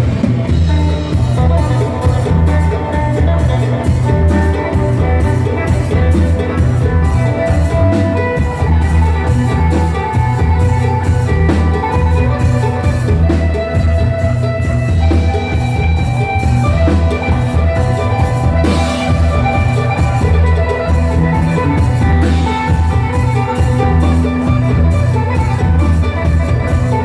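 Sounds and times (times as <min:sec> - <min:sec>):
backing track with heavy bass: 0:00.0 - 0:27.0
steady drum beat: 0:00.0 - 0:27.0.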